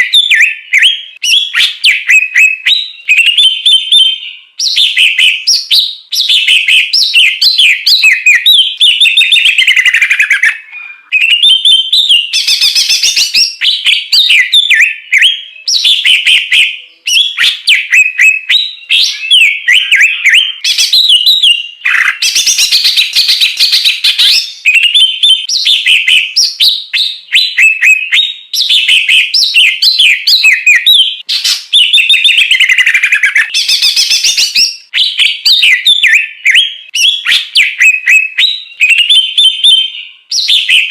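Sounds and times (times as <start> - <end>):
songbird chattering and trilling: 0.0 - 40.9.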